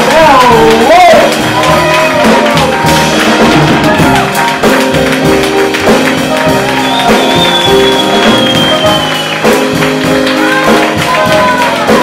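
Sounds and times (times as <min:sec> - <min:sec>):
percussion: 0:00.0 - 0:12.0
upright bass: 0:00.0 - 0:12.0.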